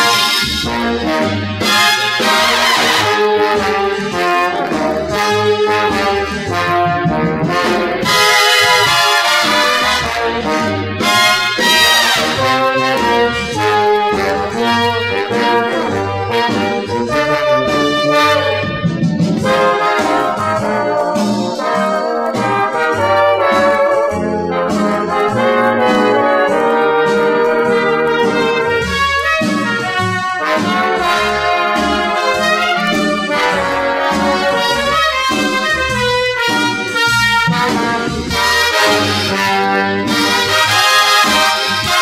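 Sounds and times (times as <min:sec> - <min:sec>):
orchestral easy-listening music: 0:00.0 - 0:42.0
trumpets and trombones playing: 0:00.0 - 0:42.0.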